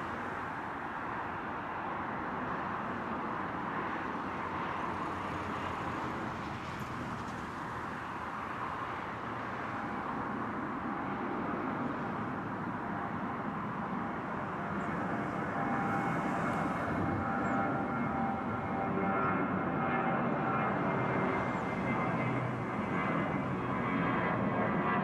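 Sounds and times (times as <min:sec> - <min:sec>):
jet engines at takeoff: 0:00.0 - 0:25.0.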